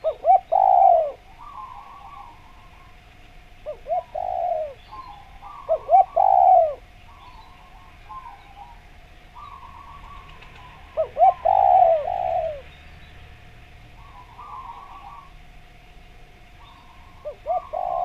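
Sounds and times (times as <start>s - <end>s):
dove cooing: 0.0s - 3.0s, 3.6s - 12.7s, 13.9s - 15.6s, 16.6s - 18.0s
birds chirping: 0.0s - 18.0s.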